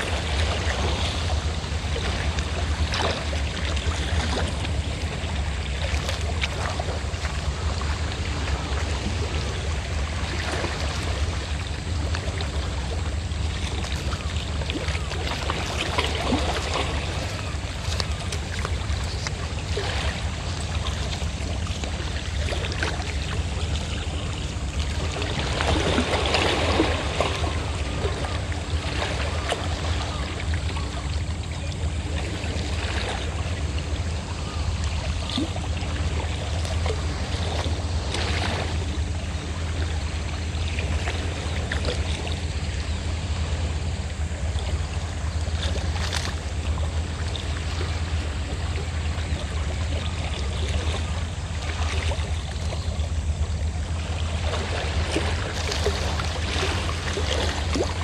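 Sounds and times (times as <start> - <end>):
boat engine drone: 0.0 - 58.0
small waves washing on shore: 0.0 - 58.0.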